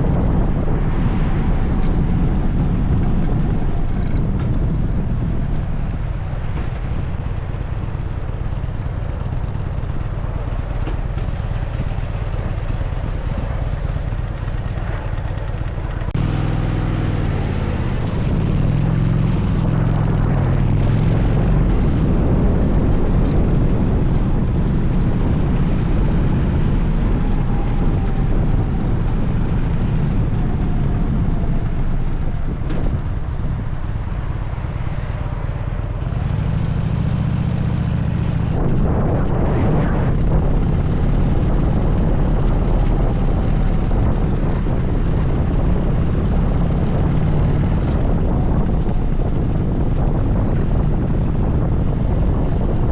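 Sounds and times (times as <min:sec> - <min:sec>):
motorcycle engine running: 0:00.0 - 0:52.9
wind noise on microphone: 0:00.0 - 0:52.9.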